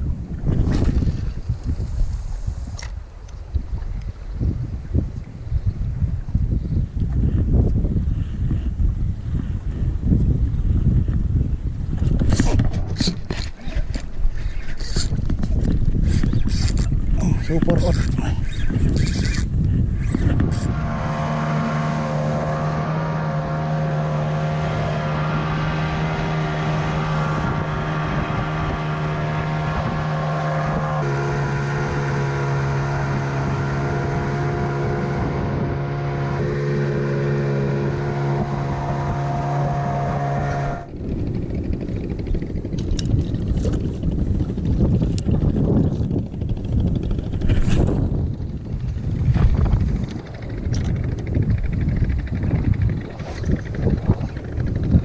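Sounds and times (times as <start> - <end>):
wind noise: 0.0 - 55.0
boat engine running: 7.2 - 55.0.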